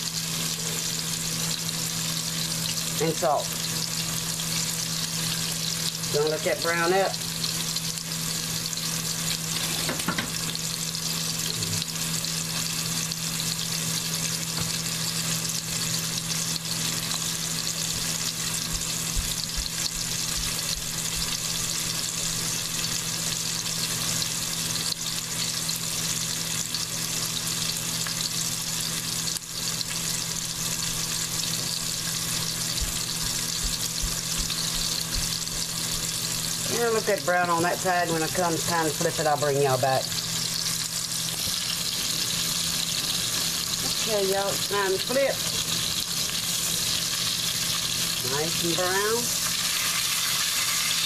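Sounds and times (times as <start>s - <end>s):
meat sizzling in hot oil: 0.0s - 51.0s.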